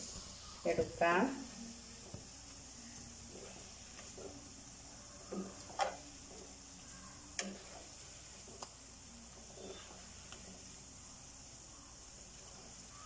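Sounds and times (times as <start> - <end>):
cauliflower sizzling in hot oil: 0.0 - 13.0.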